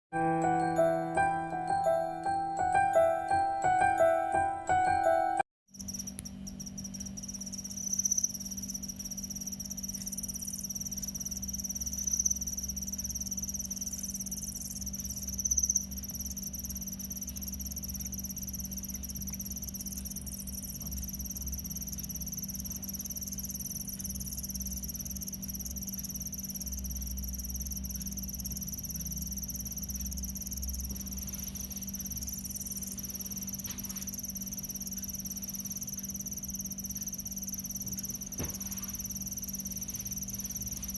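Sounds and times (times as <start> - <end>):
crickets trilling: 5.7 - 40.9.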